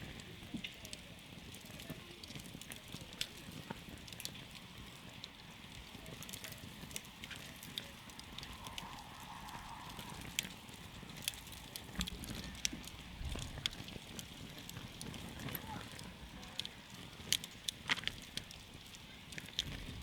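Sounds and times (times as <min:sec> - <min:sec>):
campfire crackling: 0:00.0 - 0:20.0
low rumble of burning: 0:00.0 - 0:20.0.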